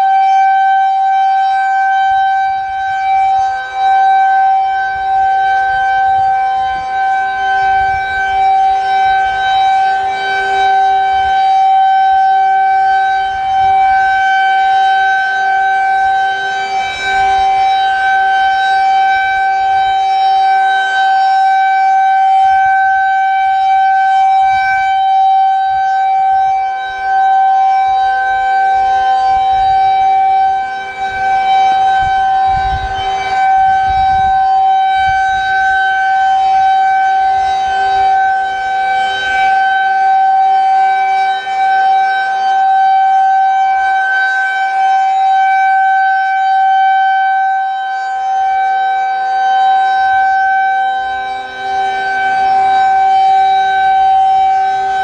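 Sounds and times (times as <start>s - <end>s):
rotating siren steady tone: 0.0s - 55.0s.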